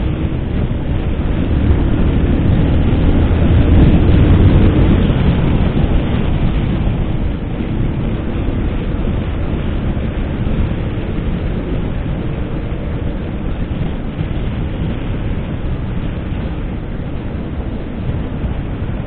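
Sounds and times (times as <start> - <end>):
motorcycle engine and road noise: 0.0 - 19.0
wind buffeting microphone: 0.0 - 19.0.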